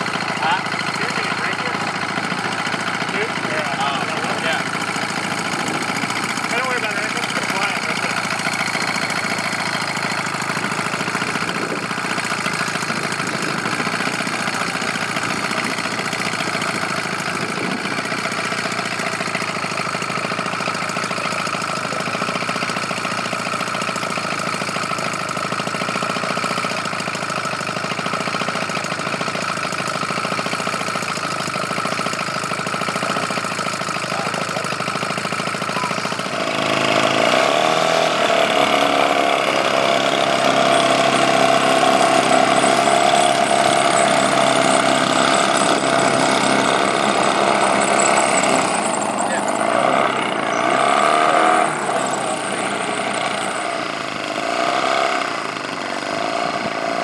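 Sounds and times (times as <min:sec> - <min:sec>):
model airplane engine idling: 0:00.0 - 0:57.0.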